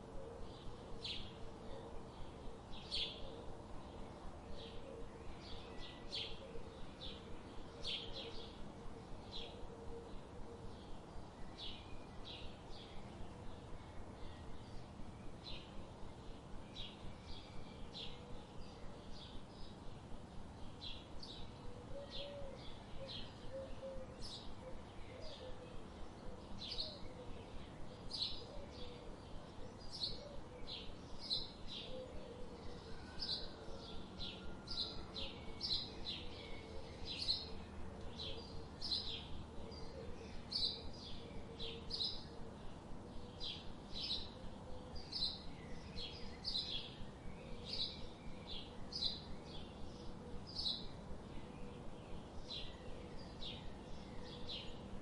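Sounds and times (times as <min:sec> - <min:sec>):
soft steady hiss: 0:00.0 - 0:55.0.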